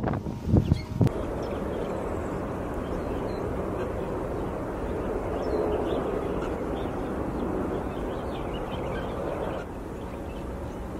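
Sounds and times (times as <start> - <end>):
low outdoor wind rumble: 0.0 - 10.9
faint high bird calls: 0.7 - 10.9.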